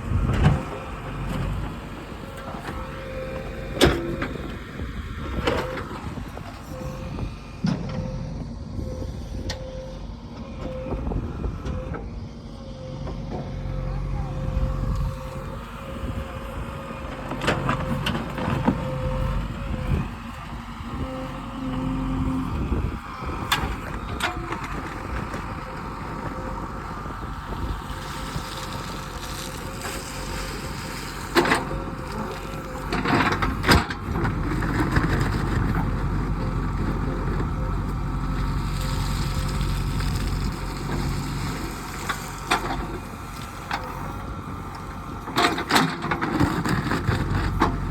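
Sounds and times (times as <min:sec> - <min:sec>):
diesel machinery engine drone: 0:00.0 - 0:47.9.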